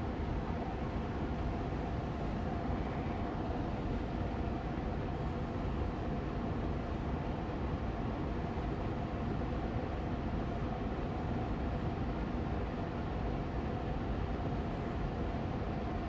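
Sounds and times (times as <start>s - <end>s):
air purifier fan running: 0.0s - 16.0s.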